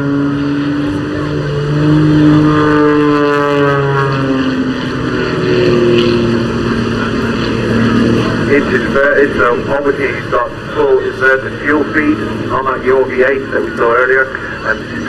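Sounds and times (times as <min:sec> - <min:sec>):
airplane engine and propeller drone: 0:00.0 - 0:15.0.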